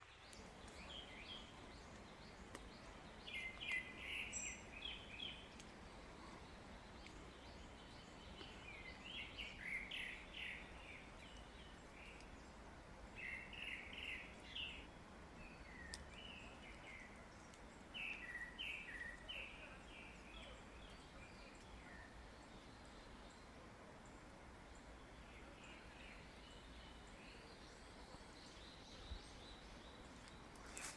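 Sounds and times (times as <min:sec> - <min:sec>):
birds chirping: 0:00.0 - 0:30.9
faint forest background hiss: 0:00.0 - 0:30.9.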